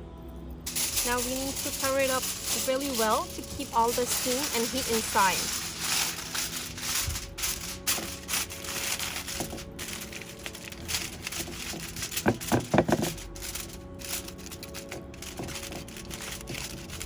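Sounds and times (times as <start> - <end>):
foil crinkling and rustling: 0.7 - 17.0
irregular clicks and knocks: 0.7 - 17.0.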